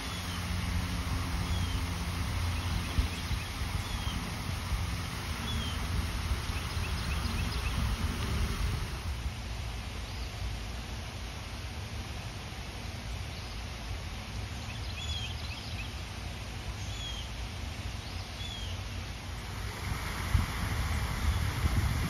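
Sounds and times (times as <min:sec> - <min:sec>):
rushing outdoor noise: 0:00.0 - 0:22.0.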